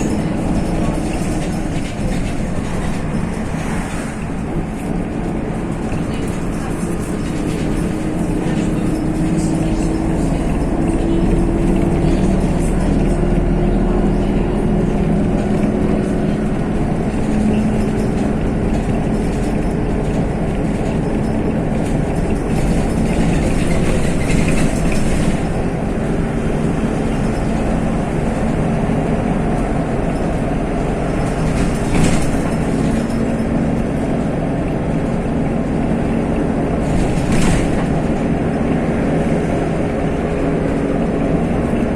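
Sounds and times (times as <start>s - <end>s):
bus engine humming: 0.0s - 41.9s
road rumble: 0.0s - 41.9s.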